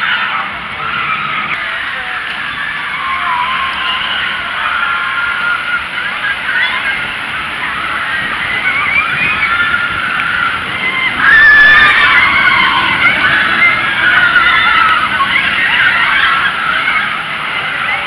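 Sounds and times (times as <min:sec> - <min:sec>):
riders screaming: 0:00.0 - 0:18.0
roller coaster train passing: 0:00.0 - 0:18.0.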